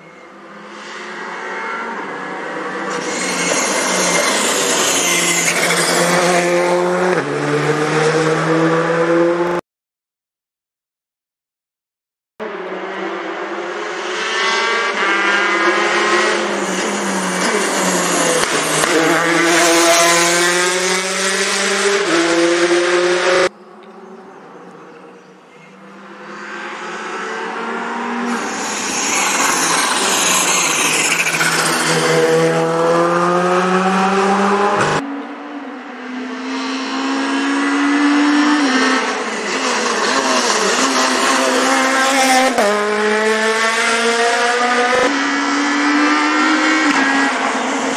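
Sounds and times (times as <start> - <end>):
rally car engines revving: 0.1 - 9.6, 12.4 - 47.9.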